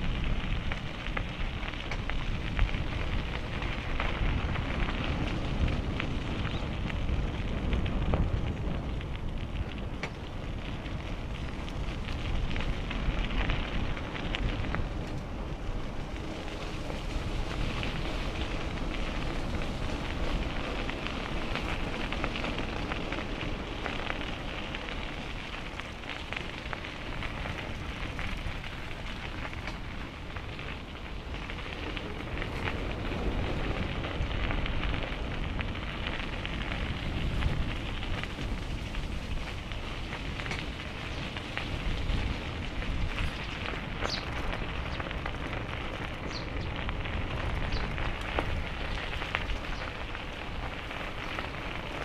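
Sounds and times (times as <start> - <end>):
bicycle tyres rolling on path: 0.0 - 52.0
wind rushing over microphone: 0.0 - 52.0.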